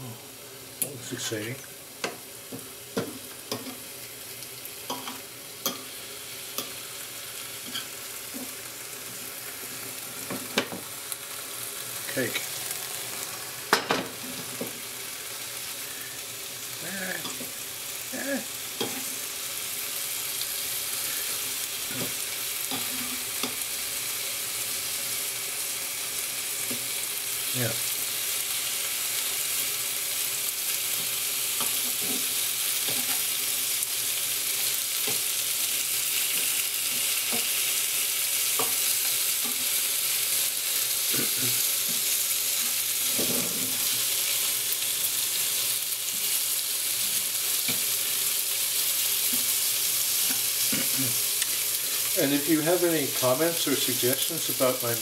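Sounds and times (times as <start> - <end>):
bacon sizzling in a frying pan: 0.0 - 55.0.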